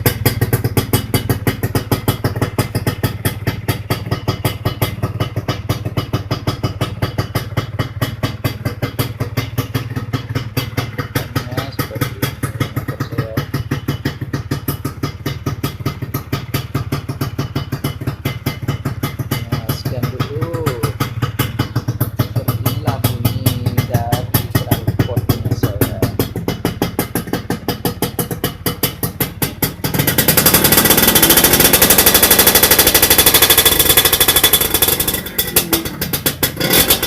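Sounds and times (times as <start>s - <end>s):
two-stroke engine running: 0.0s - 37.0s.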